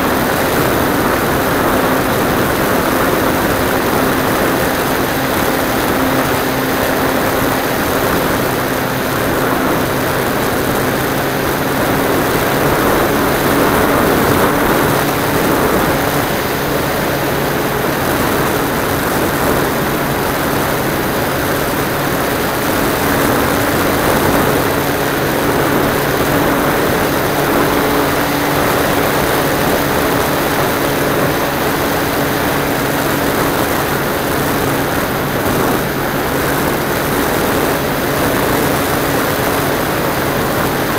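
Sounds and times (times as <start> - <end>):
wind rushing: 0.0 - 39.0
model aircraft engine and propeller: 0.0 - 40.9.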